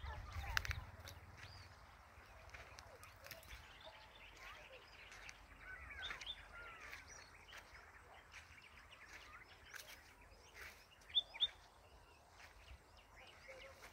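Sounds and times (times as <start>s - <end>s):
birds chirping and calling: 0.0s - 13.9s
faint rural background noise: 0.0s - 13.9s.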